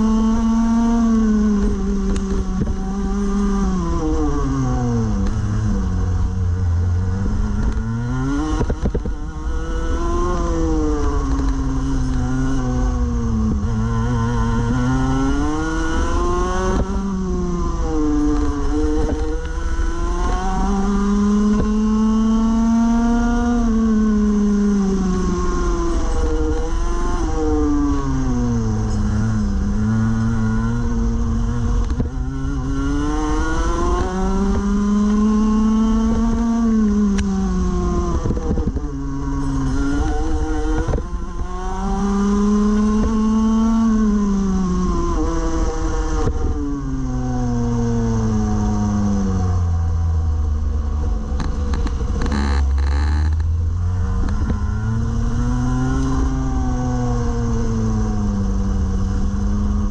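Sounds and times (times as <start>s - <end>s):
two-stroke kart engine revving: 0.0s - 59.9s.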